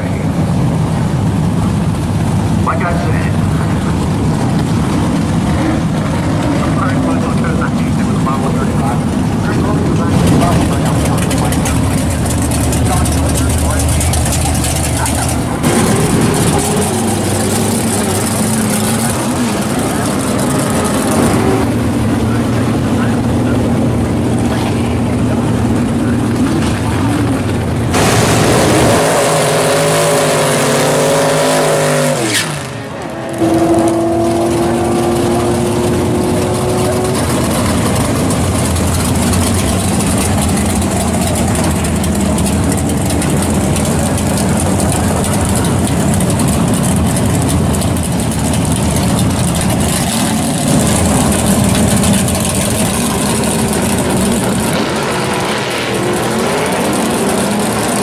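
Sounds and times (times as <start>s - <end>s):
drag car engine rumbling: 0.0s - 58.0s
engine pitch wavering: 0.0s - 58.0s.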